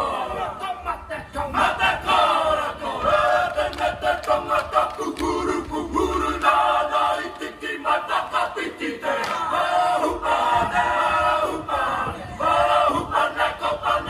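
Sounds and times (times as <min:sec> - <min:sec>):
group chanting and singing: 0:00.0 - 0:14.0.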